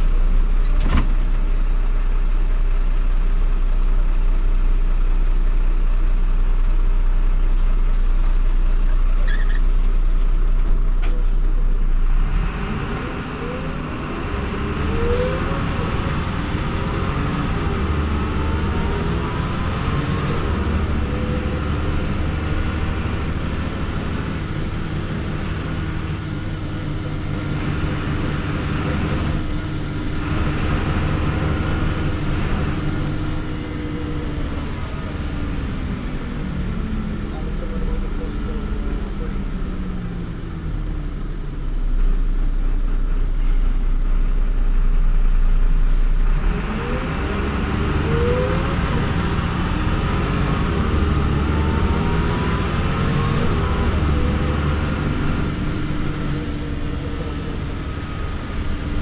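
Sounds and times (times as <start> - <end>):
bus diesel engine droning: 0.0 - 59.0
engine and drivetrain whine: 0.0 - 59.0.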